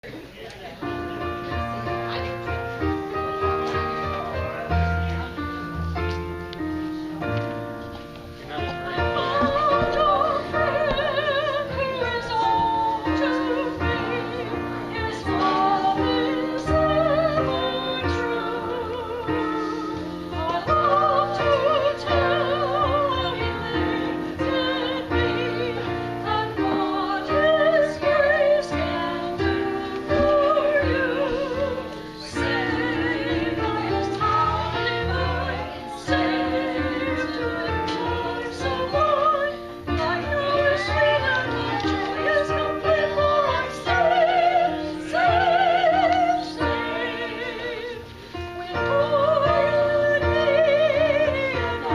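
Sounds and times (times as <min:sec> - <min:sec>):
person singing with vibrato: 0:08.5 - 0:51.9.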